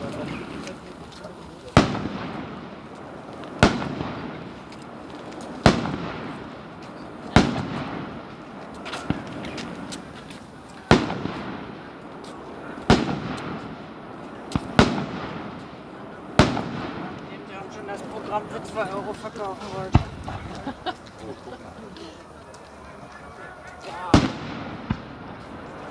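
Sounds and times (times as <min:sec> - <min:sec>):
firework shells bursting: 0:00.0 - 0:21.7.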